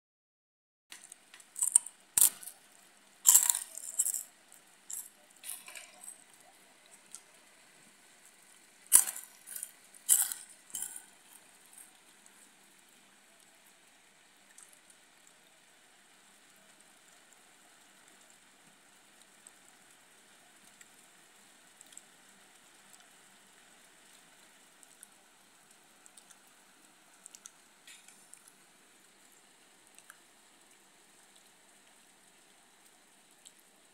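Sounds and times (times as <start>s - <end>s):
light rain hiss: 0.9s - 33.9s.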